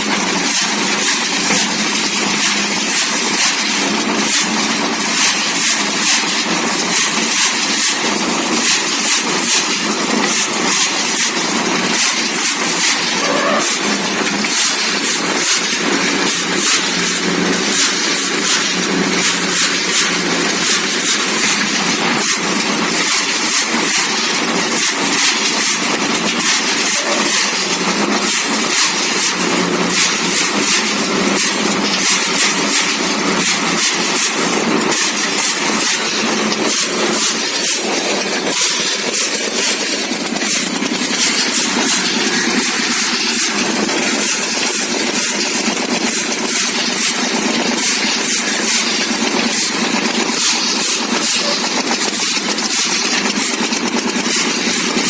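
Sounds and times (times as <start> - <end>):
engine running with rattle: 0.0 - 55.0.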